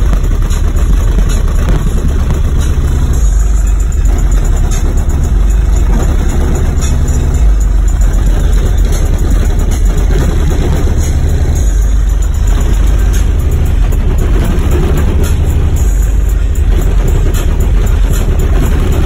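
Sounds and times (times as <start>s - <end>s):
loud deep bass from subwoofers: 0.0s - 19.0s.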